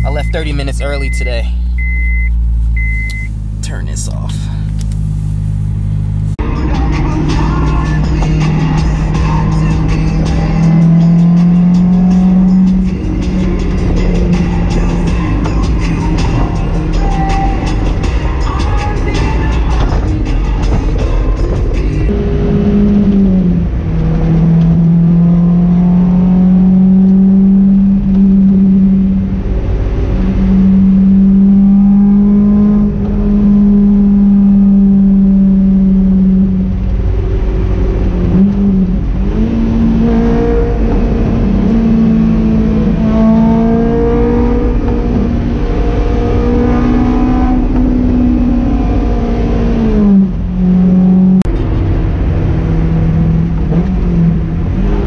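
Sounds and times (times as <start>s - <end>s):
car engine droning at cruise: 0.0s - 55.0s.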